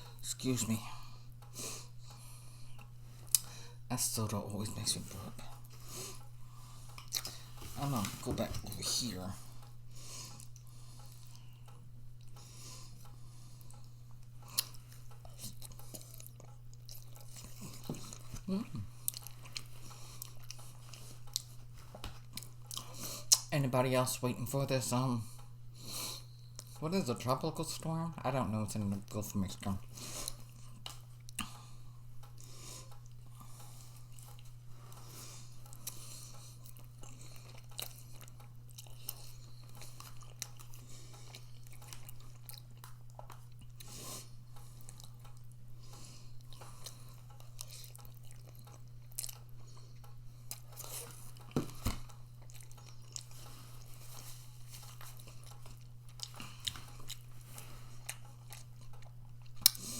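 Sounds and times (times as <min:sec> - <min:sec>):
steady low hum: 0:00.0 - 0:59.9
person chewing food: 0:01.0 - 0:03.9, 0:05.0 - 0:23.5, 0:25.4 - 0:26.8, 0:29.0 - 0:59.9.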